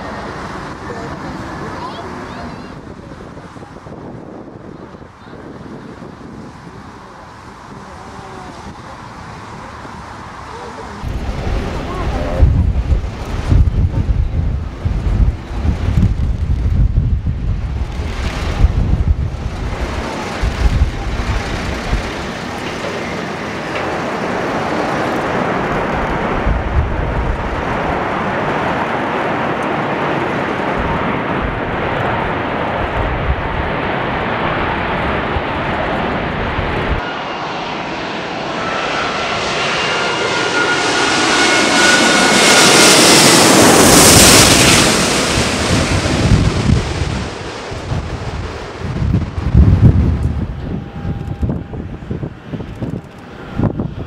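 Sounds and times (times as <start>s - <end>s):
jet aircraft passing overhead: 0.0s - 54.0s
jet engines running: 0.0s - 54.0s
wind buffeting microphone: 0.0s - 54.0s.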